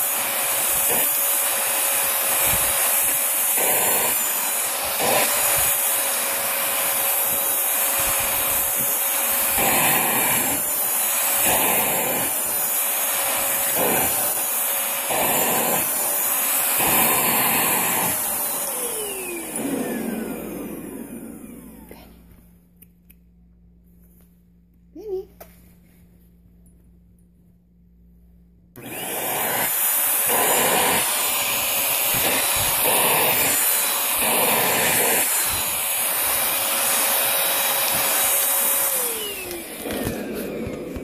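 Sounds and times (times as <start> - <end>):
vacuum motor winding down: 0.0 - 22.0, 28.8 - 41.0
vacuum cleaner whining: 0.0 - 22.6, 28.8 - 41.0.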